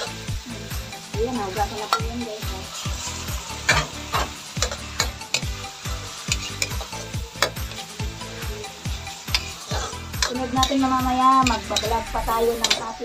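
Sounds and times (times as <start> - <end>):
meat sizzling in a wok: 0.0 - 13.0
spatula scraping and knocking wok: 0.0 - 13.0.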